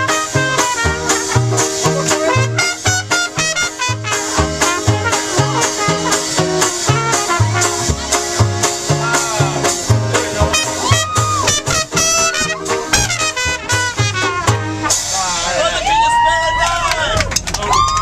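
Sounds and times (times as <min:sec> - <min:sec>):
brass horns: 0:00.0 - 0:15.9
walking bass line: 0:00.0 - 0:18.0.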